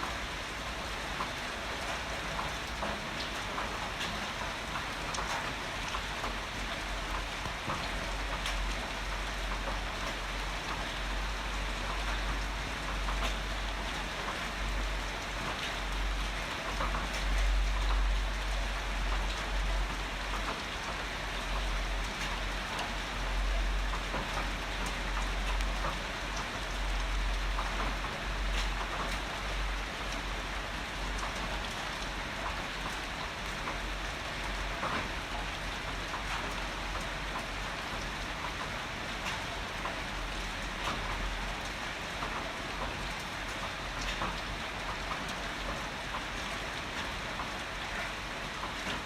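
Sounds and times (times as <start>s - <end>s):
heavy rain falling: 0.0s - 49.0s
raindrops ticking on a surface: 0.0s - 49.0s.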